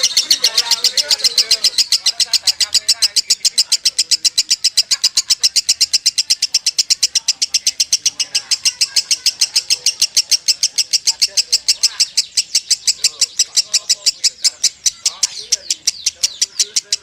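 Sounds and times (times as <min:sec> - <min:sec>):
lovebird trilling: 0:00.0 - 0:17.0.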